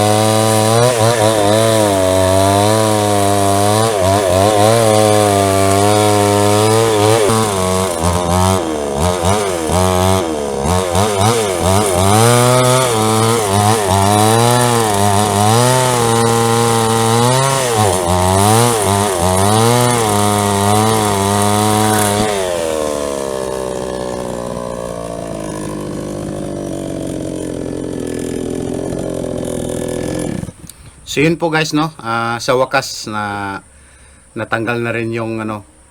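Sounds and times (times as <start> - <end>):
chainsaw cutting wood: 0.0 - 31.1.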